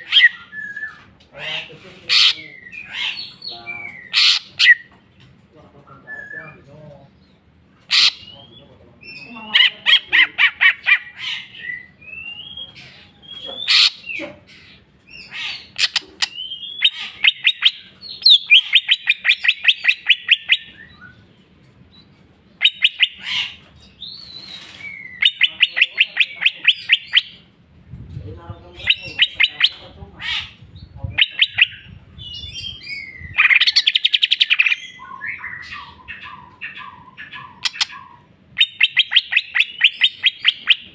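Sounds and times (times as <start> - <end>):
bird singing varied song: 0.0 - 27.5, 28.4 - 40.9.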